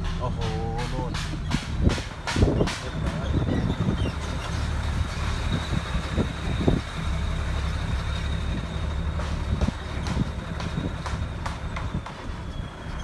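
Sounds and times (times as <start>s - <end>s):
knocks and rattles: 0.0s - 12.4s
diesel truck engine running: 0.0s - 13.0s.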